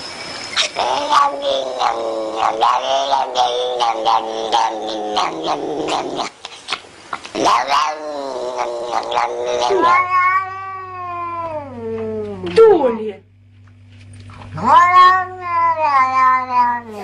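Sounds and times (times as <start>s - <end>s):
animal crying out: 0.6s - 11.8s, 14.5s - 17.0s.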